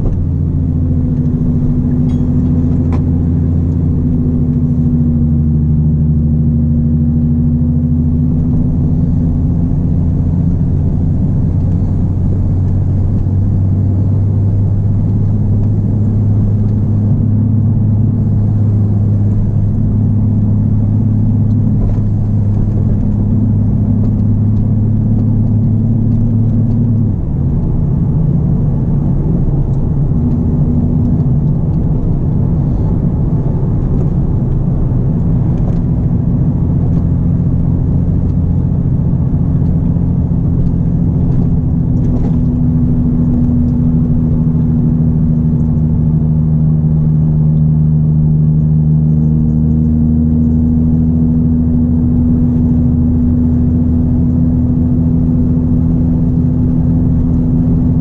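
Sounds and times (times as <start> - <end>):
car engine droning inside cabin: 0.0 - 58.0.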